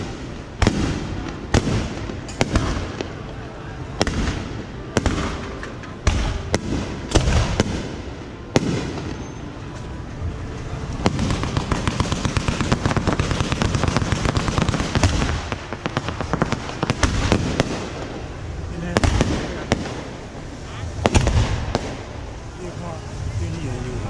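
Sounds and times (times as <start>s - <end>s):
fireworks crackling pops: 0.0s - 3.4s, 4.0s - 10.0s, 10.6s - 22.6s
fireworks sharp bangs: 0.0s - 9.8s, 10.9s - 22.6s.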